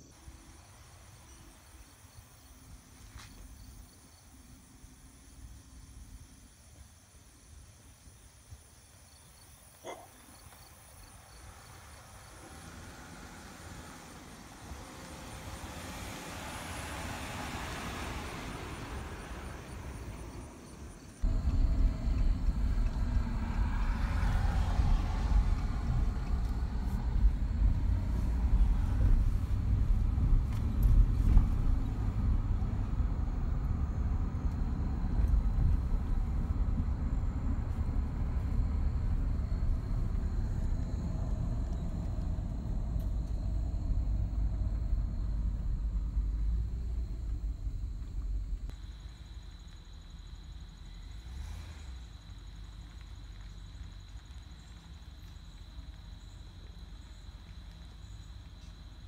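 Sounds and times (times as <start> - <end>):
low rumble of road and engine: 0.0 - 59.0
truck tyre and engine noise: 10.4 - 59.0.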